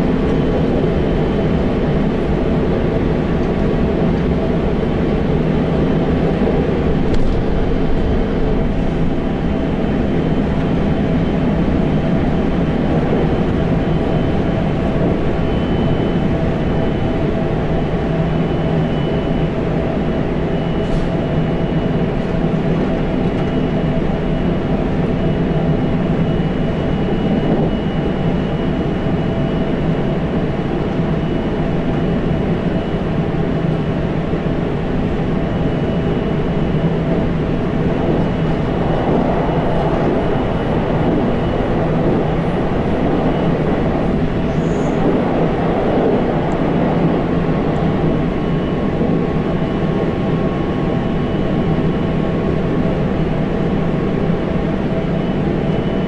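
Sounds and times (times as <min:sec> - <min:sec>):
train wheels rumbling on rail: 0:00.0 - 0:55.5.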